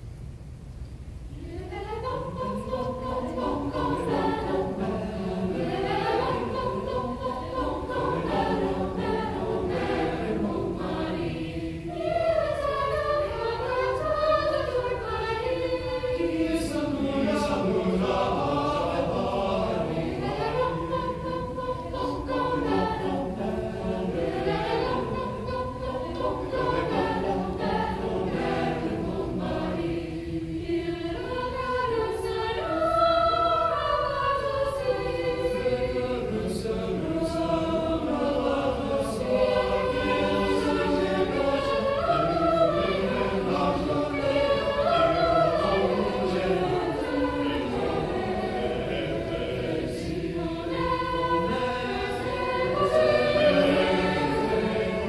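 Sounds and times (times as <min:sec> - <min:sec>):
mixed choir singing: 0:01.3 - 0:55.0.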